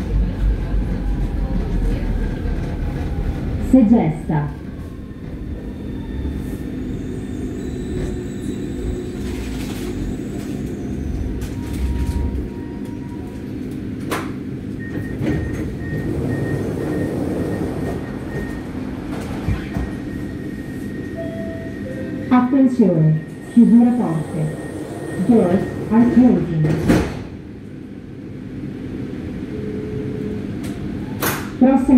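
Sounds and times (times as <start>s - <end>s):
low rail rumble: 0.0s - 31.9s
train electric hum: 0.0s - 31.9s.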